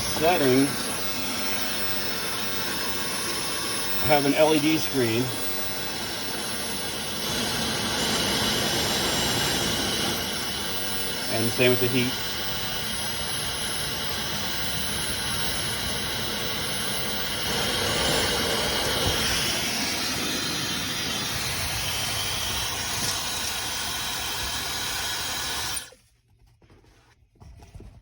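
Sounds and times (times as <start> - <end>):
hair dryer running: 0.0 - 26.0.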